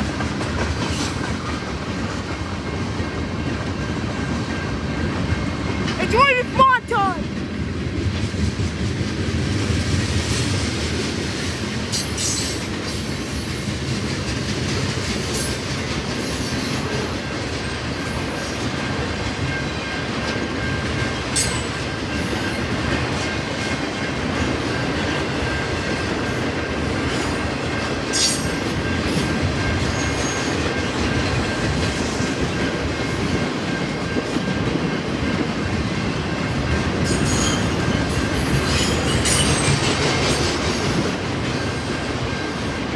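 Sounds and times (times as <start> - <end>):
rail clicks: 0.0 - 42.9
train rumbling on rails: 0.0 - 42.9.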